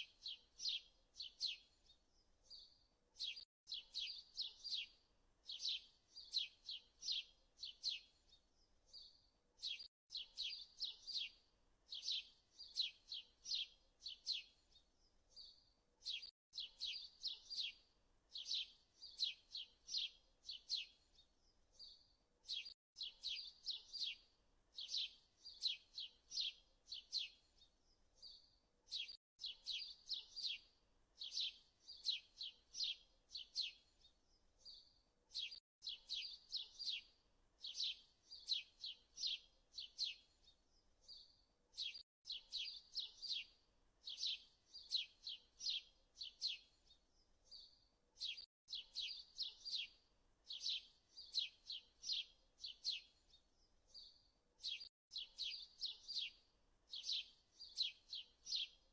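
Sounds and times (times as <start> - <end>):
songbird chirping: 0.0 - 58.9.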